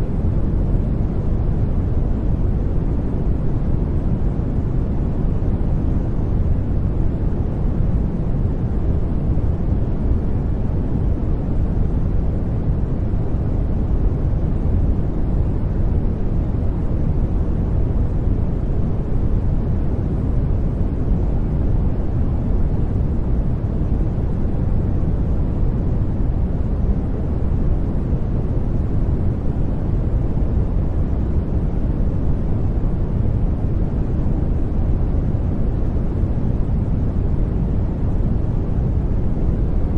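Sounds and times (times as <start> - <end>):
deep white noise hiss: 0.0 - 39.9.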